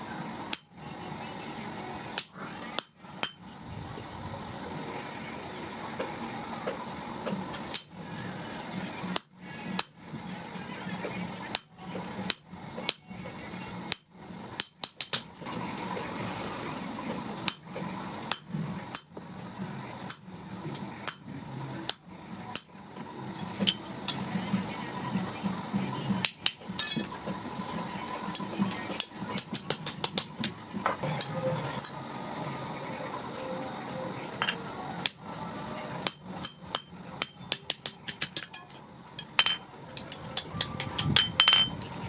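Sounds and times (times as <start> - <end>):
steady hum: 0.0 - 42.0.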